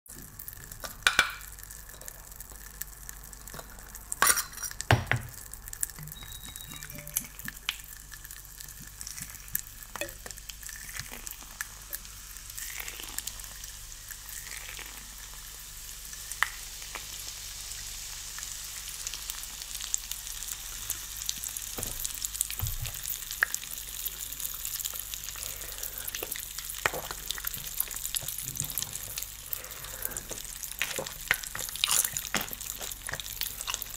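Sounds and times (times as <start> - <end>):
fizzy drink crackling and hissing: 0.4 - 33.9.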